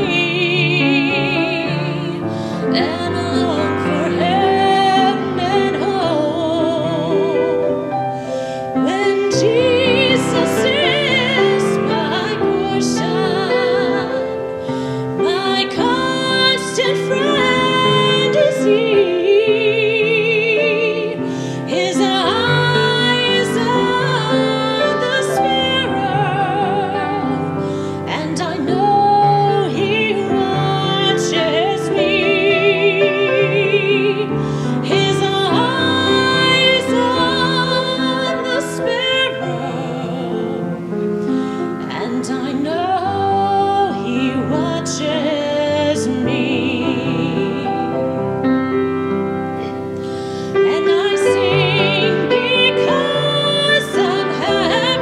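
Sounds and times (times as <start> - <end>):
grand piano: 0.0 - 55.0
woman singing classical style: 0.0 - 55.0.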